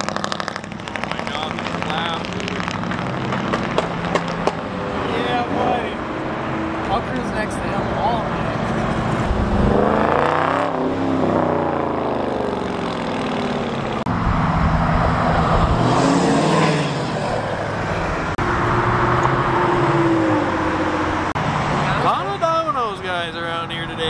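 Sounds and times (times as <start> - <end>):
cars driving past: 0.0 - 24.0.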